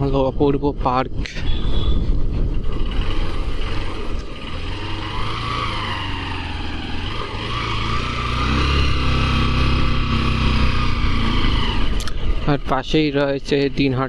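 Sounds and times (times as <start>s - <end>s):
road noise: 0.0s - 14.0s
motorcycle engine running: 1.5s - 14.0s.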